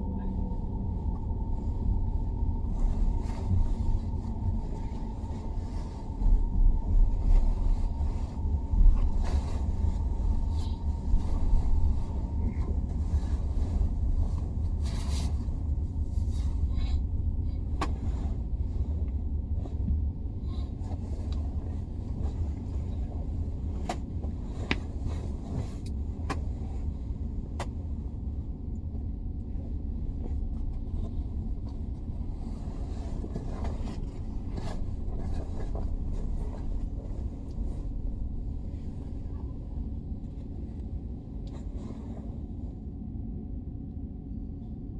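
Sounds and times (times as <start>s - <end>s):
train cabin rumble: 0.0s - 44.9s.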